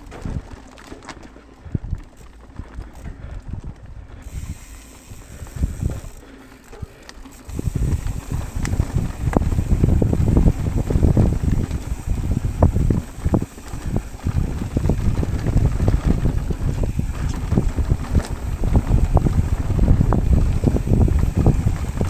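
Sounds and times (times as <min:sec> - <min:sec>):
bike knocks and rattles: 0:00.0 - 0:22.0
tyres rolling over dirt: 0:00.0 - 0:22.0
wind rushing over microphone: 0:01.6 - 0:06.2, 0:07.5 - 0:22.0.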